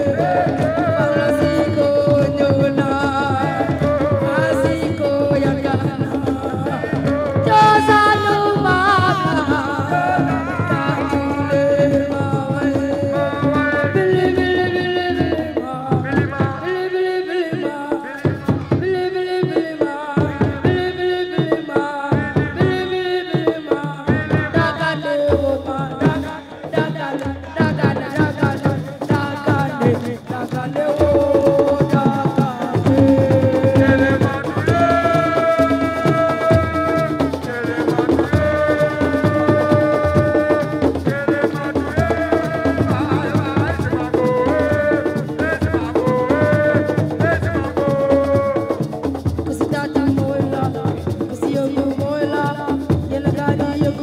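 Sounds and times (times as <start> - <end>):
drums and percussion: 0.0 - 54.0
person singing: 0.0 - 54.0.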